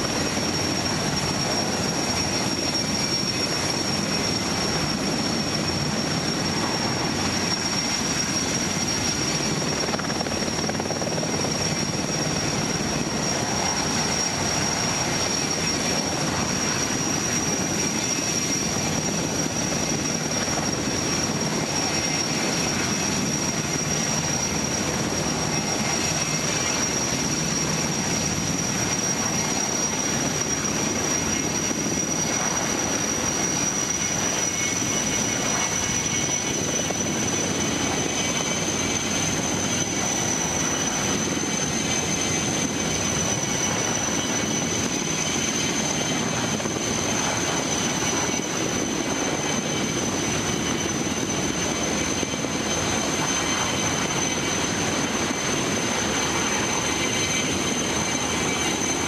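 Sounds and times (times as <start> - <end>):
helicopter hovering drone: 0.0 - 59.0.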